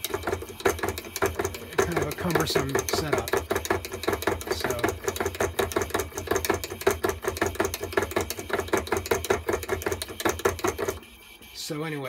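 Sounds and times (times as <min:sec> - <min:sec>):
rapid mechanical clatter: 0:00.0 - 0:11.1.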